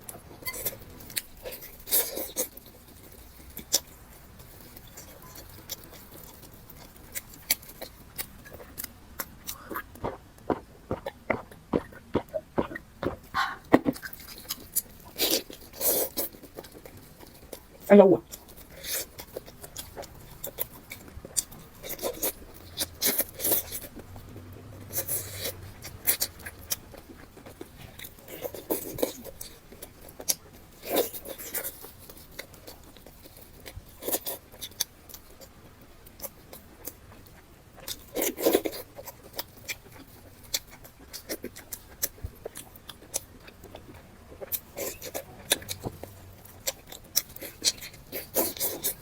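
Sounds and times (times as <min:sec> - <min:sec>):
close chewing and lip smacks: 0:00.0 - 0:49.0.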